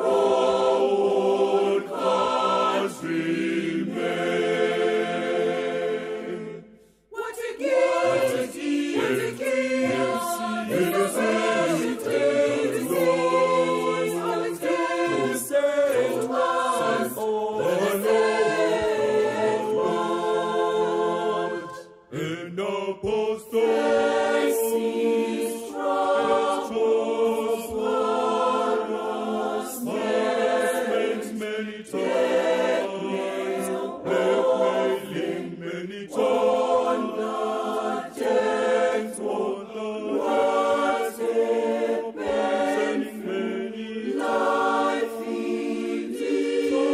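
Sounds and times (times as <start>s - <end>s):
choir singing gospel: 0.0s - 46.9s.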